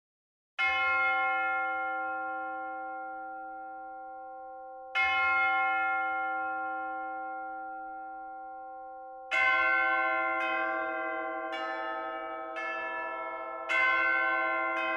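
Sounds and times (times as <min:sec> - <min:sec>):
church bell tolling: 0:00.6 - 0:14.9.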